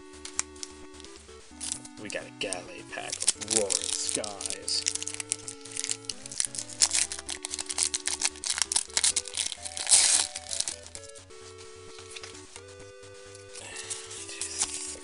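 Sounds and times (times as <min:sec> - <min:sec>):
background music: 0:00.0 - 0:15.0
foil wrapper crinkling and tearing: 0:00.3 - 0:01.9, 0:02.5 - 0:11.1, 0:11.9 - 0:12.5, 0:13.4 - 0:15.0.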